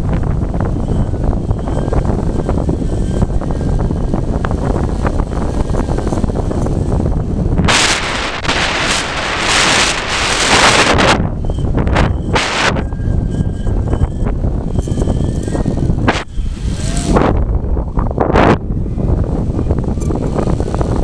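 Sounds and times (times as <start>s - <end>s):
gusty wind buffeting microphone: 0.0s - 21.0s.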